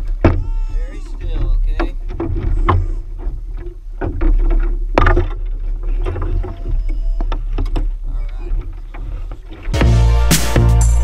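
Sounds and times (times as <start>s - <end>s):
paddle knocking against hull: 0.0s - 10.0s.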